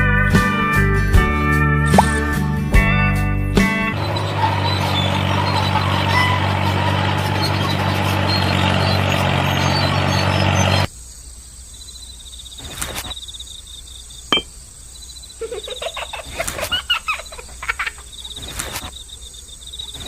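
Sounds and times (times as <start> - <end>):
frogs croaking: 3.9 - 20.0.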